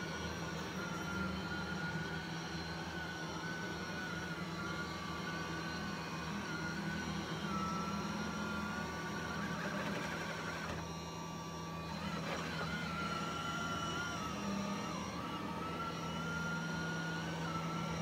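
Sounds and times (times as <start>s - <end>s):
robot vacuum motor hum: 0.0s - 18.0s.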